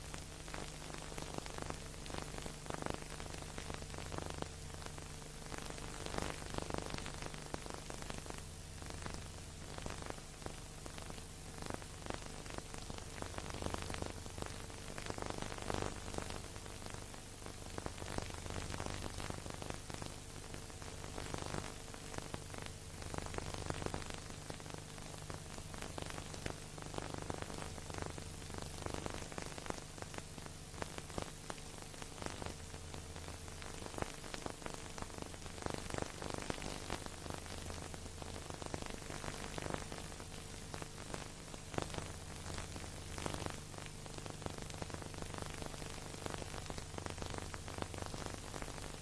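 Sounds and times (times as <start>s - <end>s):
hiss with crackling clicks: 0.0s - 49.0s
low steady hum: 0.0s - 49.0s.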